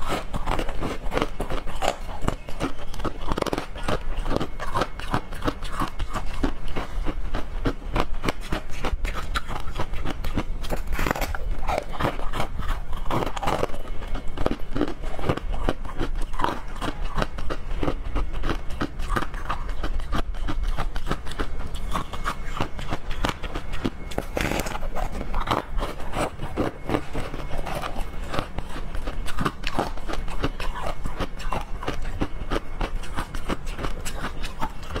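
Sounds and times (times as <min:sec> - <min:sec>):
crunching frozen treat: 0:00.0 - 0:35.0.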